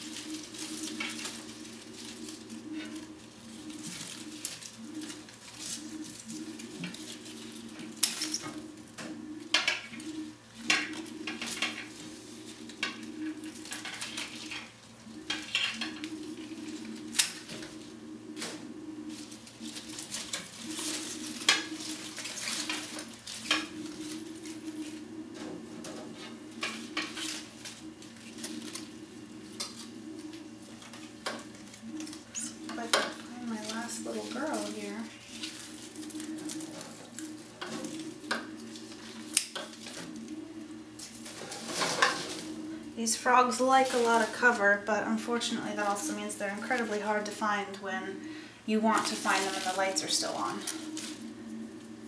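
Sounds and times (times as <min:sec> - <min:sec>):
leaves and stems rustling: 0:00.0 - 0:52.0
low hum: 0:00.0 - 0:52.0.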